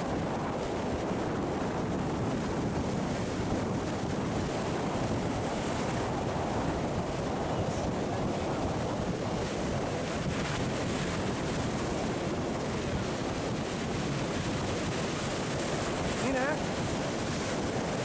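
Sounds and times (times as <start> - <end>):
sea surf breaking against rocks: 0.0 - 18.0
wind buffeting microphone: 0.0 - 18.0.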